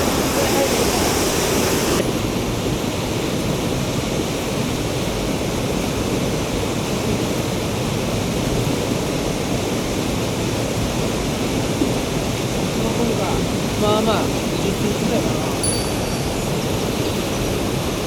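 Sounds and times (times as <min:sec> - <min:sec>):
mountain stream water rushing: 0:00.0 - 0:18.0.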